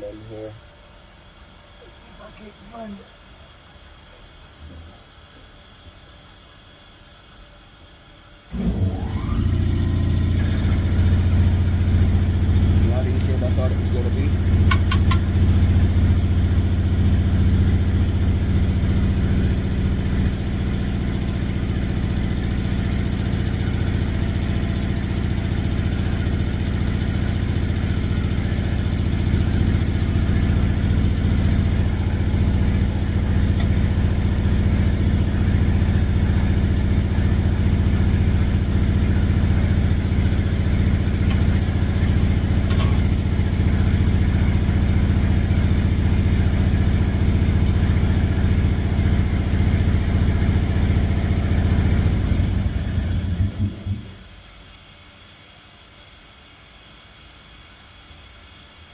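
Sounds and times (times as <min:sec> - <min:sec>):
engine idling with low hum: 0:00.0 - 0:58.9.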